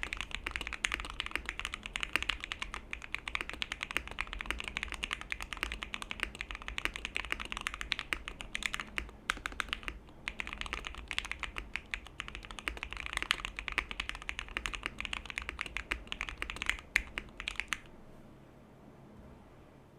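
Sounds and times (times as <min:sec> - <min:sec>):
fast mechanical keyboard typing: 0:00.0 - 0:17.9.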